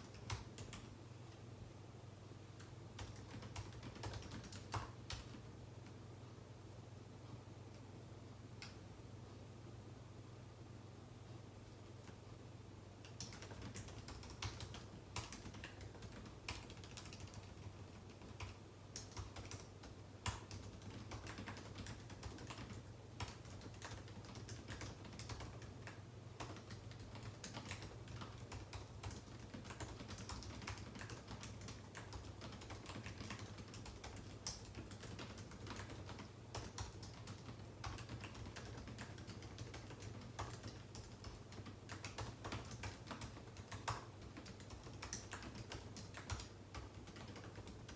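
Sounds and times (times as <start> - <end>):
typing on computer keyboard: 0.0 - 0.9, 2.6 - 5.4, 13.0 - 47.9
faint low hum: 0.0 - 47.9.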